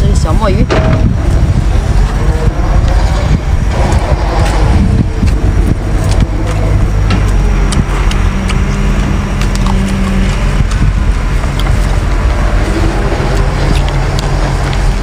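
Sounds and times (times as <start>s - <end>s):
low steady rumble: 0.0s - 15.0s
wet chewing clicks: 2.0s - 15.0s.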